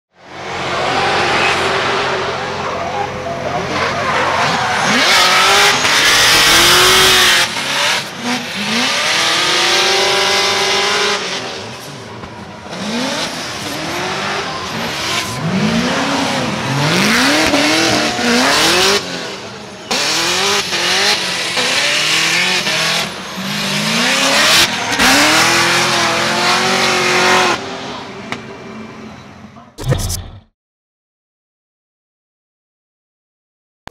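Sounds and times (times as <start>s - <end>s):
car engines revving: 0.2s - 30.2s
tires screeching and sliding: 0.2s - 30.2s.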